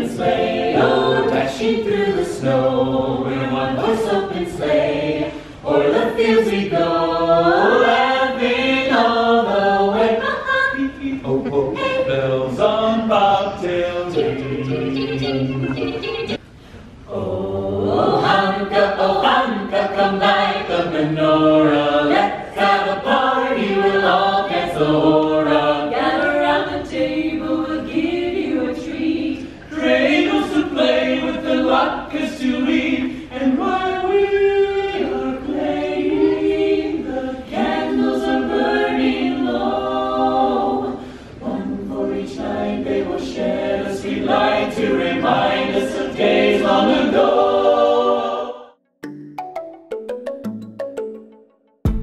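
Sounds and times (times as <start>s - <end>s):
choir singing a cappella: 0.0s - 16.4s, 17.1s - 48.8s.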